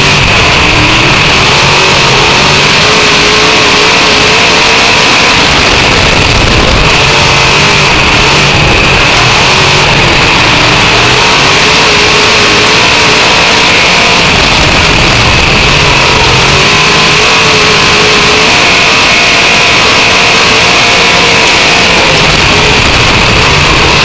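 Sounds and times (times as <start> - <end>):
race car engine roaring: 0.0 - 24.0.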